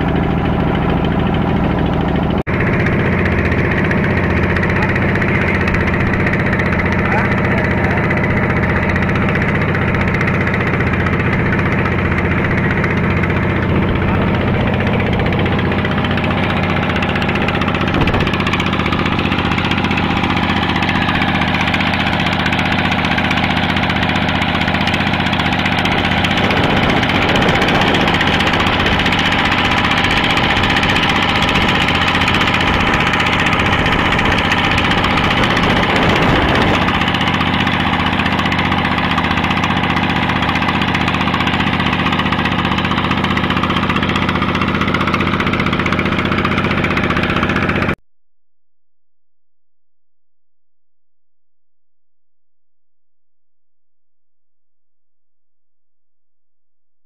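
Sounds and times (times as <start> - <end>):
water rushing: 0.0 - 47.9
boat engine running: 0.0 - 48.0.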